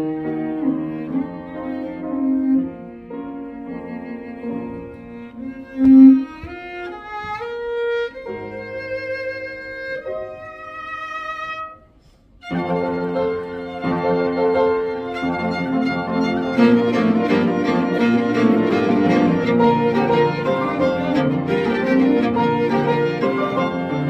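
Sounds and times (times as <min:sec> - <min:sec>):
bowed fiddle melody: 0:00.0 - 0:24.0
piano accompaniment: 0:00.0 - 0:24.0.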